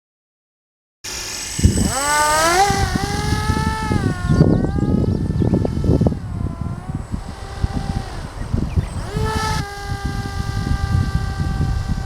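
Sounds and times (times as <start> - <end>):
gusty low rumble: 1.1 - 12.0
motor whining: 1.1 - 12.0.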